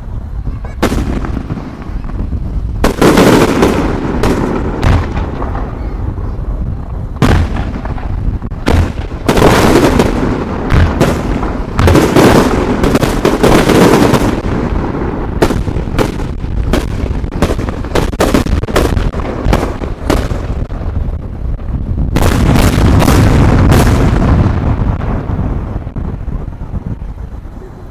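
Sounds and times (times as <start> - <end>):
low rumble: 0.0 - 9.4, 14.4 - 27.9
fireworks bangs and booms: 0.0 - 27.9.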